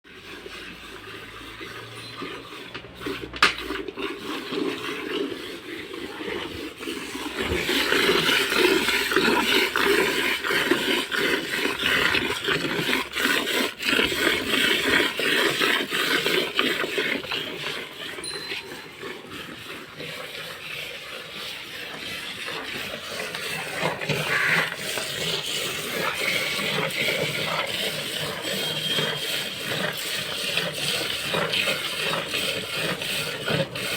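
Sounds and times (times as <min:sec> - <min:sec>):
milk streaming into a pail: 0:00.1 - 0:33.9.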